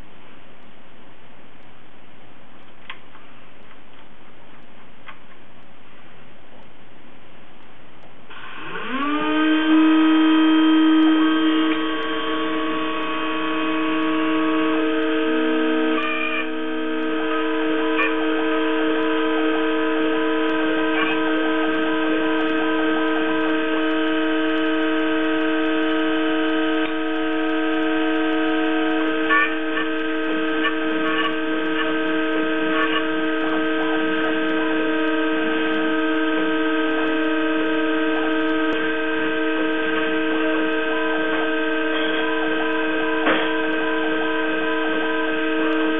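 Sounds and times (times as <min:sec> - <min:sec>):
high spindle whine: 0:08.0 - 0:45.9
motor tones shifting pitch: 0:08.3 - 0:45.9.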